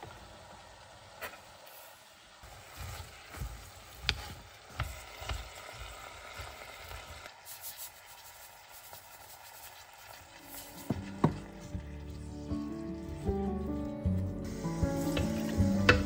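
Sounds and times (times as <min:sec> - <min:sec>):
food sizzling in a saucepan: 0:00.0 - 0:16.0.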